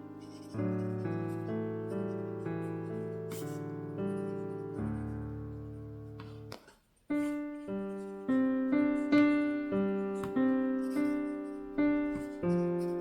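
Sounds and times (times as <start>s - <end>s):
slow solo piano music: 0.0s - 13.0s.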